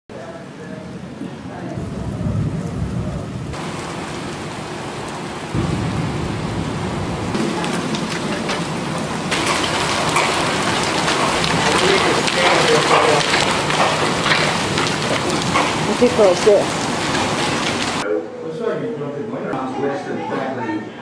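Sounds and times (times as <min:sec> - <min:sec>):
heavy rain pouring: 0:00.1 - 0:18.0
low thunder rumbling: 0:00.9 - 0:18.0.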